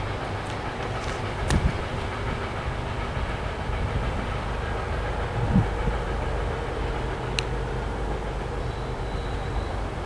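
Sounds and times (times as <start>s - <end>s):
freight train rumble: 0.0s - 10.0s.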